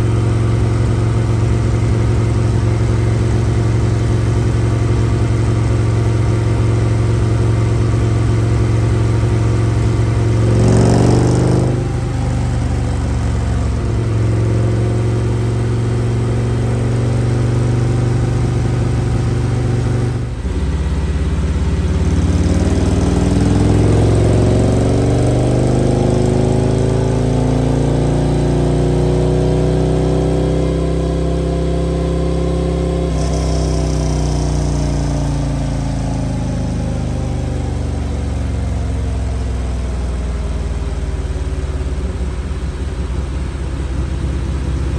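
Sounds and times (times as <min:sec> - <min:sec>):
motorcycle engine revving on dynamometer: 0:00.0 - 0:44.9.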